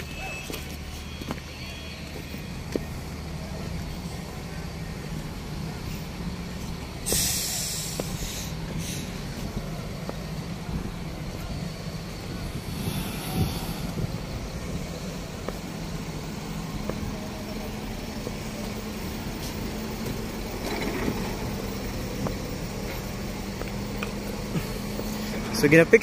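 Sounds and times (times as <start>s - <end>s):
engine idling hum: 0.0s - 26.0s.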